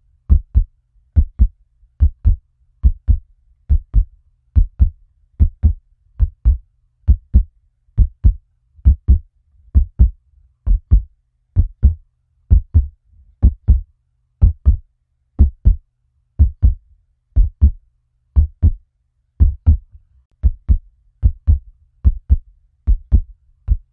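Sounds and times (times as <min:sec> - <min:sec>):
heartbeat thumps: 0:00.3 - 0:14.8, 0:15.4 - 0:15.8, 0:16.4 - 0:16.8, 0:17.4 - 0:17.8, 0:18.4 - 0:18.8, 0:19.4 - 0:23.9.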